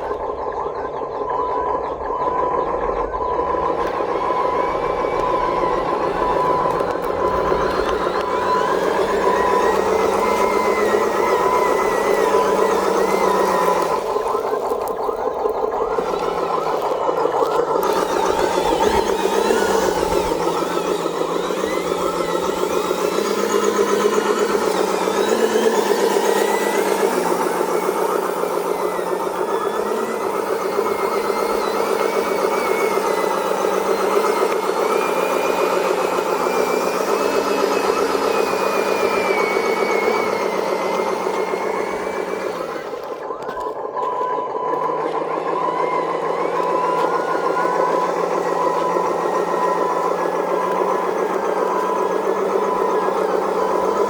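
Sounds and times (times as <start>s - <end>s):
simulated truck engine running: 0.0s - 54.0s.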